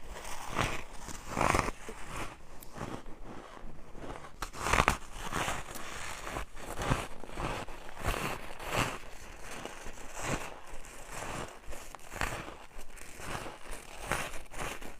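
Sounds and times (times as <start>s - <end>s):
crunching ice: 0.0s - 14.9s.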